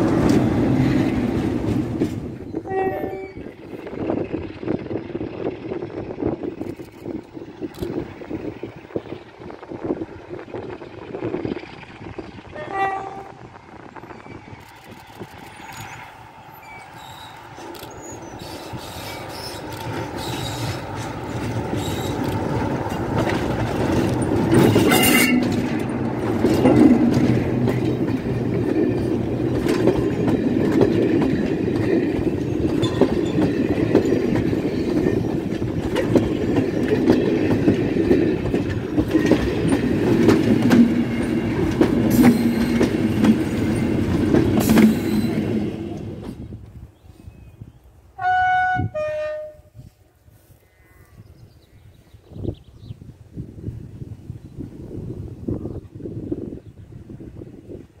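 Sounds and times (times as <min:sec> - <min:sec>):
wheels clicking at rail joints: 0:00.0 - 0:46.9
passenger train passing: 0:00.0 - 0:50.6, 0:53.1 - 0:58.0.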